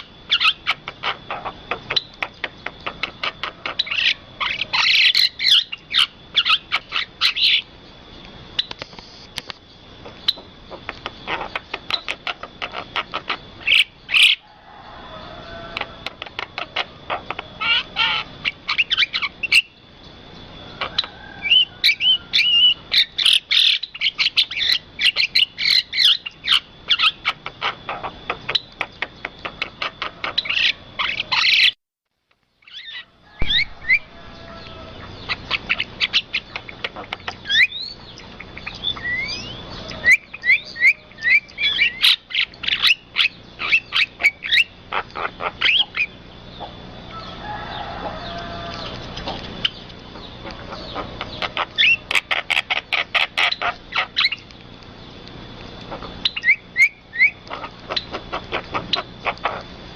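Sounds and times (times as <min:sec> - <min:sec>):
birds chirping: 0:00.0 - 0:31.8, 0:32.6 - 0:59.9.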